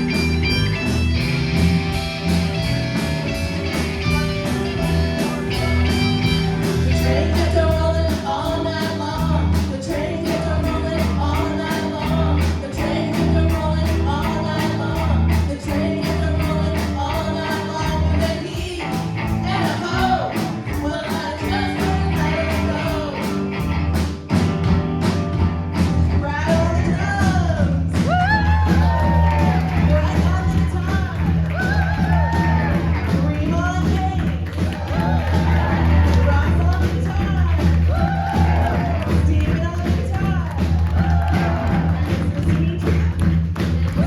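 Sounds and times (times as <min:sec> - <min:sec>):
driving drum beat: 0:00.0 - 0:44.0
electric guitar: 0:00.0 - 0:44.0.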